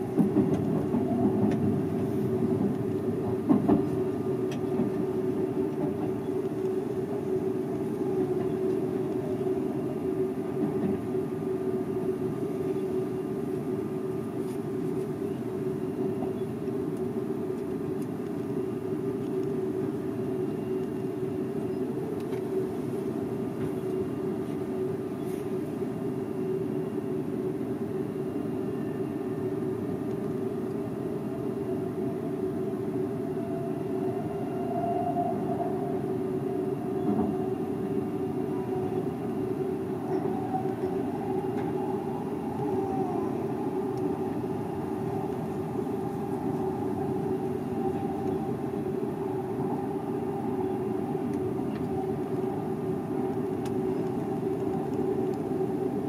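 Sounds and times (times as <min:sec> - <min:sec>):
train rolling noise: 0:00.0 - 0:56.0.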